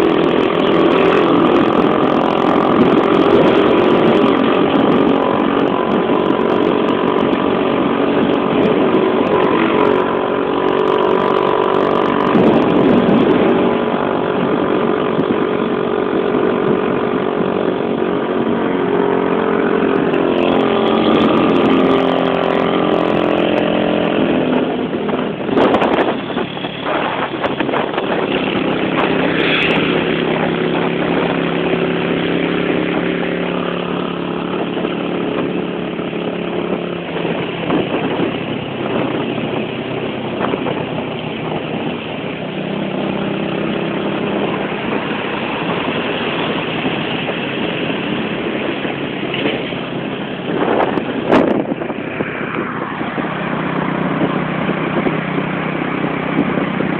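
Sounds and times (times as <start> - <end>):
motorcycle engine revving: 0.0 - 56.9
road and wind noise: 0.0 - 56.9.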